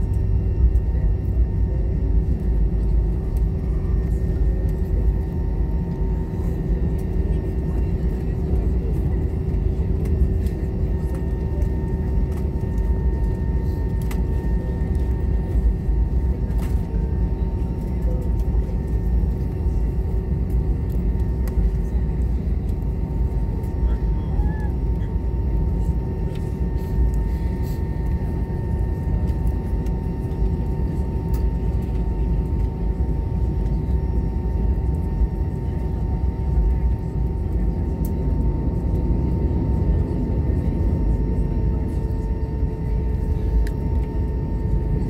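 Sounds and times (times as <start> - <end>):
low rumble of plane engines: 0.0 - 45.0.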